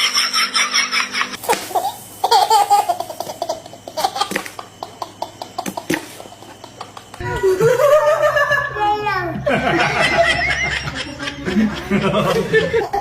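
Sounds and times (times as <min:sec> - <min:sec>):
children giggling and squealing: 0:00.0 - 0:13.0
young children laughing: 0:00.0 - 0:13.0.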